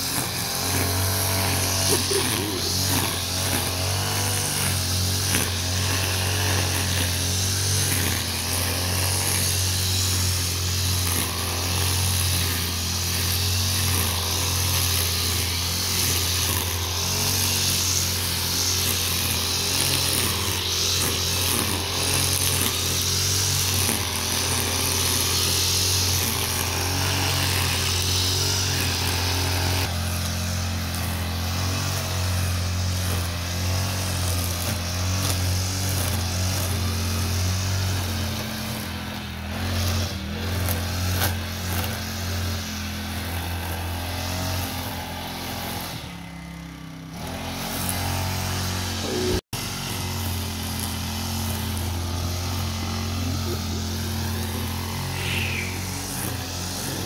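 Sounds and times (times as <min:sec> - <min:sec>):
string trimmer engine cutting grass: 0:00.0 - 0:57.0.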